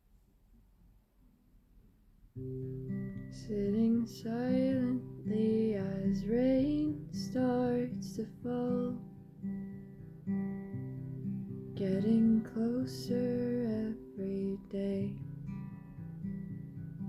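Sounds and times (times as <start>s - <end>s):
acoustic guitar chords: 2.4s - 17.0s.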